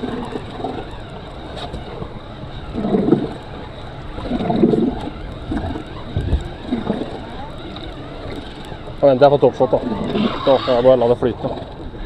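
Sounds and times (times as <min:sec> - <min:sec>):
water washing against boat hull: 0:00.0 - 0:12.0
wind buffeting microphone: 0:00.0 - 0:12.0.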